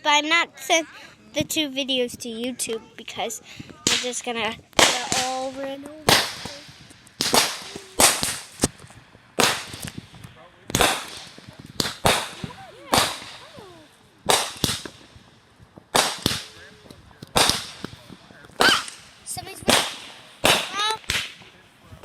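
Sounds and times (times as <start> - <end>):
fireworks exploding: 3.6 - 22.0.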